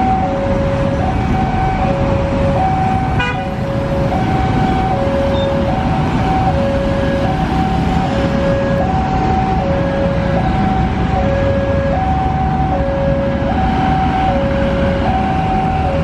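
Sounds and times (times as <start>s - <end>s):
passing traffic: 0.0s - 16.0s
two-tone crossing alarm: 0.0s - 16.0s.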